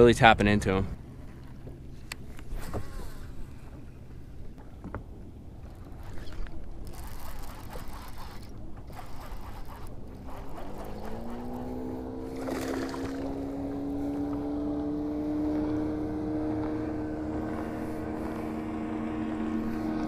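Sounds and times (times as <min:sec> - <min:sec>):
boat motor whining: 0:01.0 - 0:20.0.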